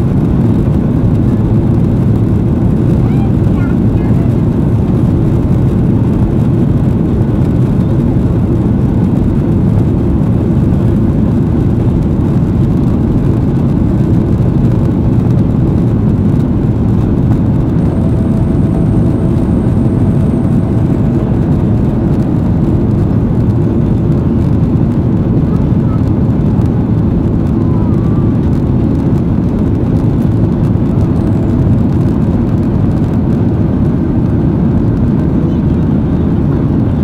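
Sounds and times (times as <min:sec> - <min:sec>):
air rushing over fuselage: 0:00.0 - 0:34.8
jet engines at climb power: 0:00.0 - 0:37.0.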